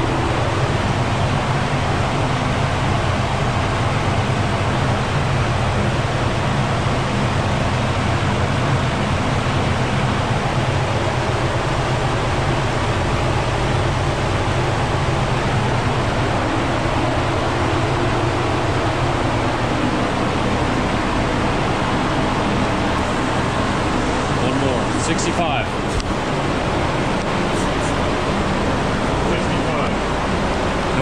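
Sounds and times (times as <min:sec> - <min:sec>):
low hum: 0:00.0 - 0:31.0
steady mechanical rush: 0:00.0 - 0:31.0.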